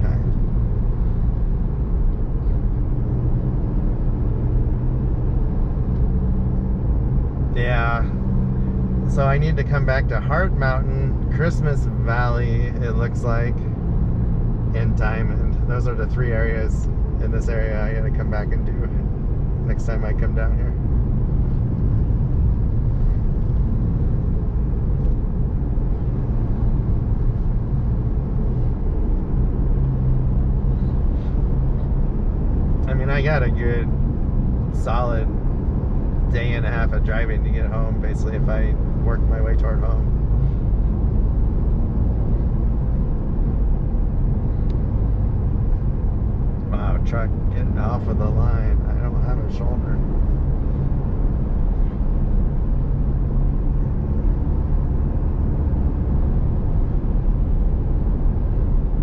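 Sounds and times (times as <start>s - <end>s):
road and tyre noise: 0.0s - 59.0s
truck engine drone: 0.0s - 59.0s.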